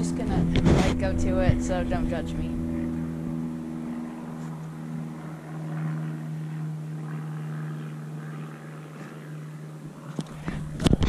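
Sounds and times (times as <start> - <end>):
propeller airplane engine hum: 0.0 - 11.0.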